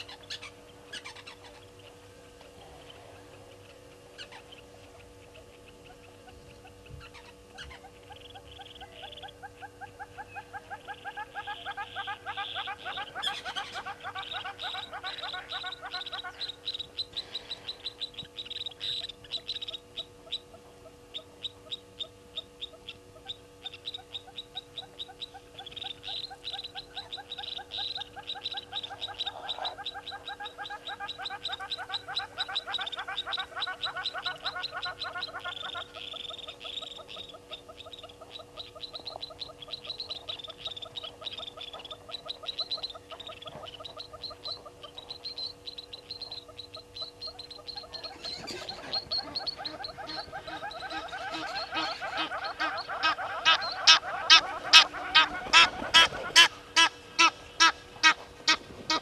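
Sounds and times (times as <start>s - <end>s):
animals calling in click trains: 0.0s - 59.0s
faint steady hum: 0.0s - 59.0s.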